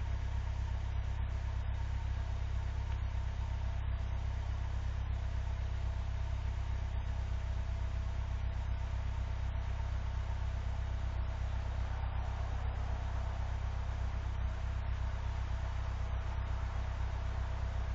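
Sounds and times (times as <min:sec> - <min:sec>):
vehicle engine idling: 0:00.0 - 0:17.9.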